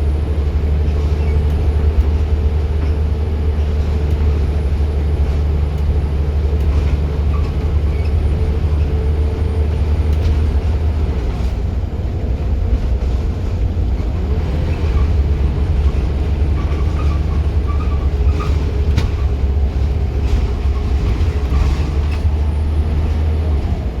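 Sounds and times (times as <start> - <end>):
bus engine rumble: 0.0 - 24.0
bodywork rattles and knocks: 0.6 - 11.6, 14.7 - 24.0.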